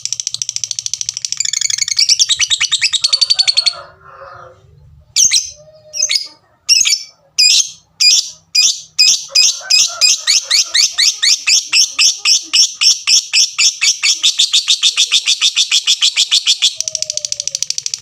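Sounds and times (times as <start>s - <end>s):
lovebird calling: 0.0s - 3.8s, 5.2s - 18.0s.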